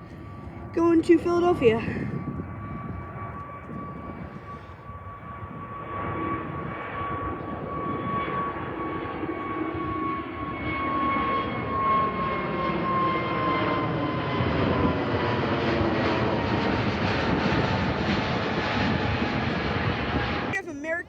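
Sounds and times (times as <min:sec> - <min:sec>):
jet engines rumbling and whining: 0:00.0 - 0:21.0.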